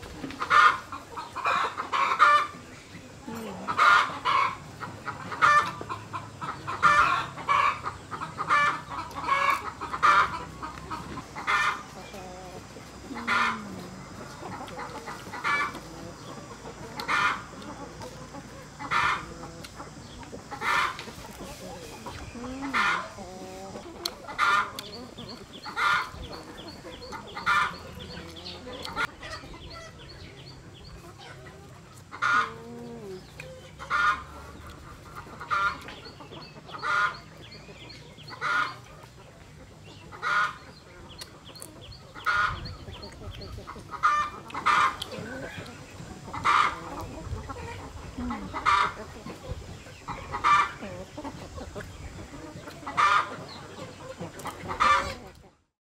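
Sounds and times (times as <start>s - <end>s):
chicken gliding calls: 0.0s - 55.8s
chickens clucking: 0.0s - 55.8s.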